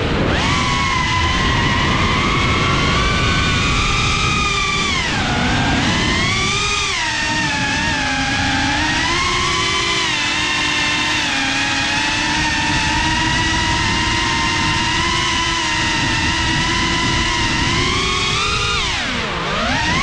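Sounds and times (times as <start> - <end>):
drone motors and propellers whining: 0.0 - 20.0.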